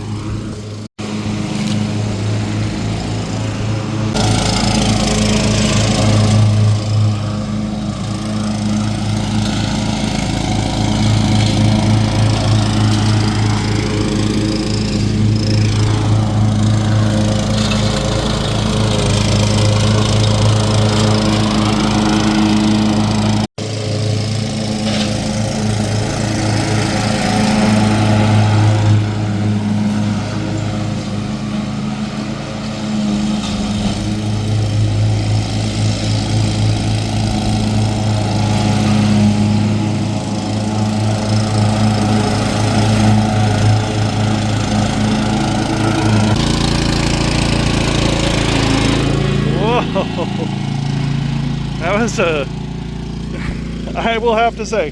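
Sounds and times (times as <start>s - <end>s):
lawn mower running: 0.0s - 54.9s.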